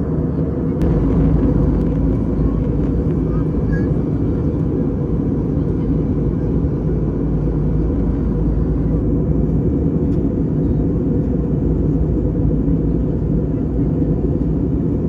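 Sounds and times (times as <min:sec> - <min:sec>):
airplane cabin noise: 0:00.0 - 0:15.0.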